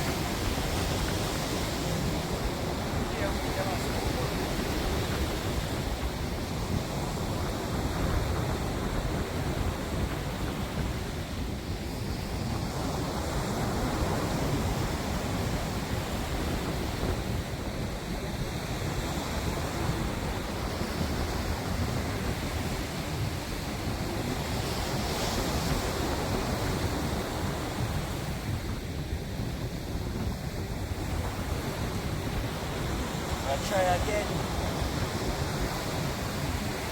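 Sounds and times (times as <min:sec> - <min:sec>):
waves rushing: 0:00.0 - 0:36.9
wind buffeting microphone: 0:00.0 - 0:36.9.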